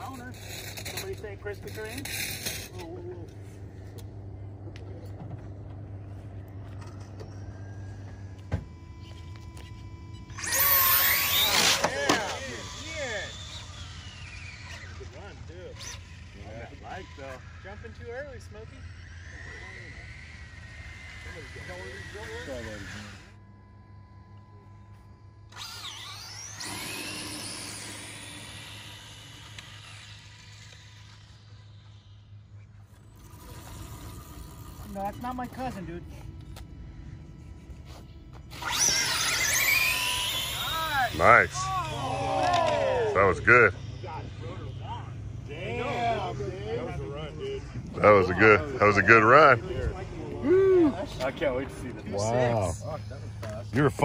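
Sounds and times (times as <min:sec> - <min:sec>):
faint high whine: 0:00.0 - 0:54.0
low mechanical hum: 0:00.0 - 0:54.0.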